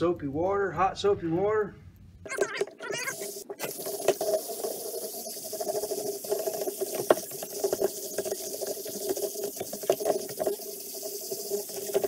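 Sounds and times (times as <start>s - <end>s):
toothbrush bristles scratching: 2.3s - 12.0s.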